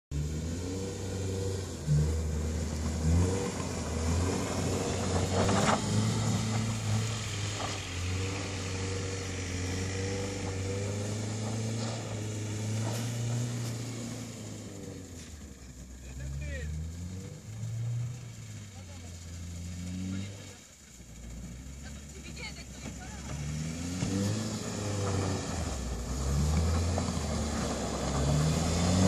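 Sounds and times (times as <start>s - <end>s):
car engine revving: 0.1s - 29.0s
wheels spinning on snow: 0.1s - 29.0s.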